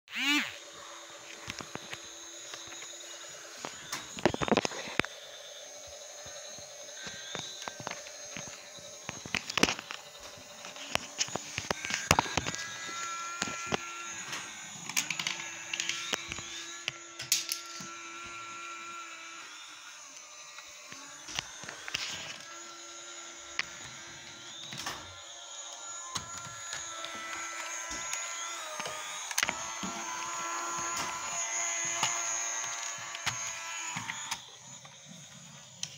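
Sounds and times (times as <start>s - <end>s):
toy helicopter motor whirring: 0.1s - 35.9s.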